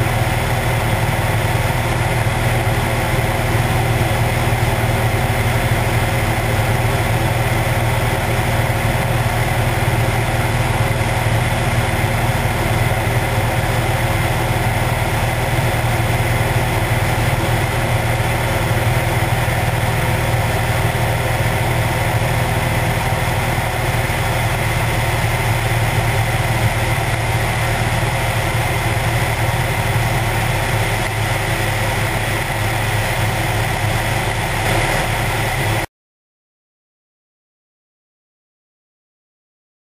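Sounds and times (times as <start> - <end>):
propeller plane engine droning: 0.0 - 35.9.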